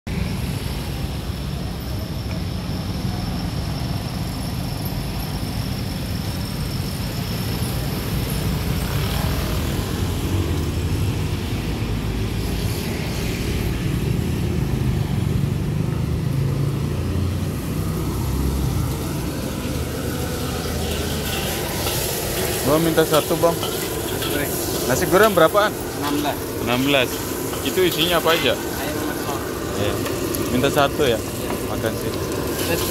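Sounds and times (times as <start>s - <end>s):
street traffic rumble: 0.1s - 32.9s.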